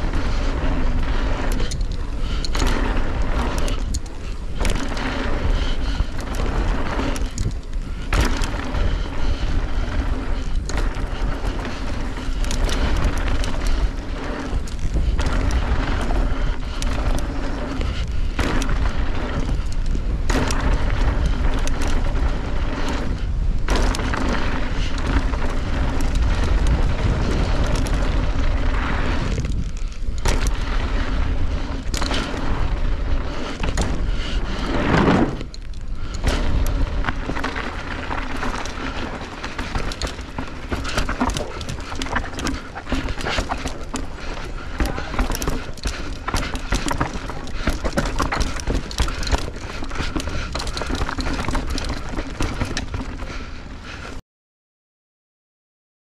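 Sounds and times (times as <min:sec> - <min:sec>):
tyres crunching over rocks: 0:00.0 - 0:53.4
bike rattling and knocking: 0:00.0 - 0:54.2
wind rumble on microphone: 0:00.0 - 0:54.2.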